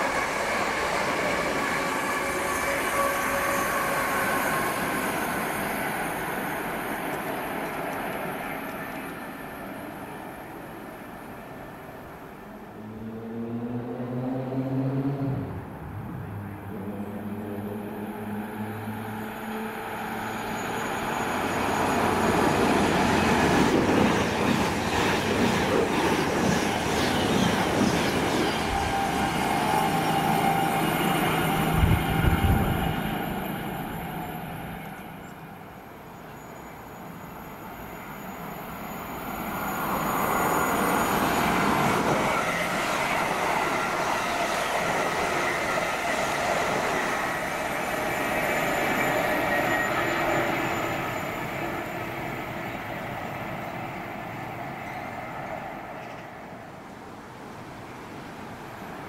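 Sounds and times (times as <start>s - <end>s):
wheel and rail noise: 0.0s - 14.1s, 14.8s - 59.0s
diesel train passing: 0.0s - 59.0s
electric train passing: 0.0s - 59.0s.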